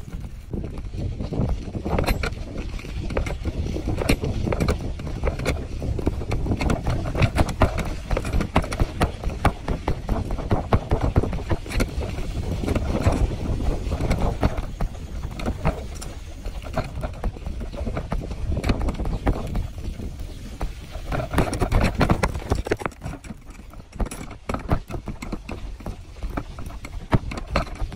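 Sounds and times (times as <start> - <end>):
bicycle and basket rattling: 0.0 - 27.9
wind noise on microphone: 0.0 - 27.9.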